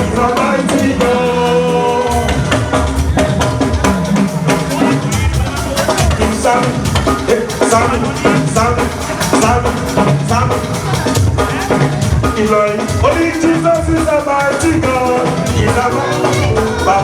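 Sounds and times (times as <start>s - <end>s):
drum kit and percussion: 0.0s - 17.0s
keyboard or guitar: 0.0s - 17.0s.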